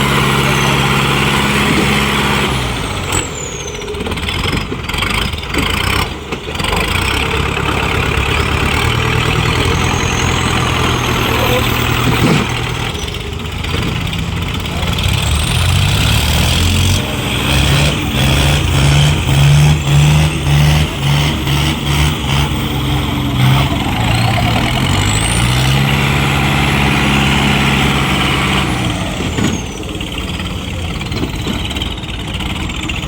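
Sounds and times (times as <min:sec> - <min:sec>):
tractor engine labouring: 0:00.0 - 0:33.0.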